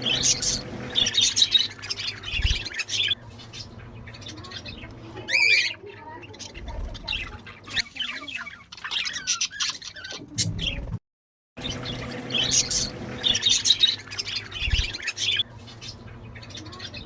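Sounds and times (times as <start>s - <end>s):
budgerigars chirping and squawking: 0.0s - 11.0s, 11.6s - 17.0s.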